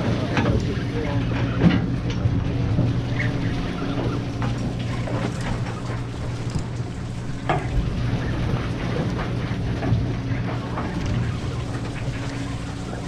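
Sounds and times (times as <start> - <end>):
boat engine humming: 0.0 - 13.0
fish splashing in water: 0.0 - 13.0.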